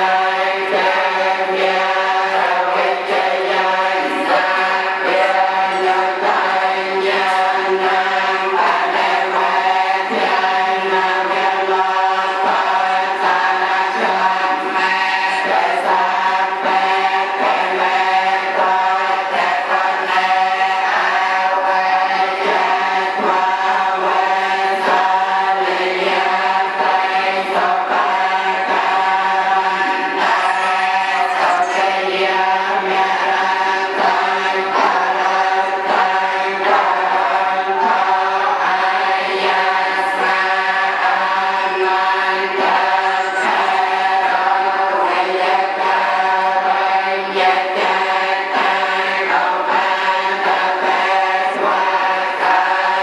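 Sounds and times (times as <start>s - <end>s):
group chanting in unison: 0.0s - 53.0s.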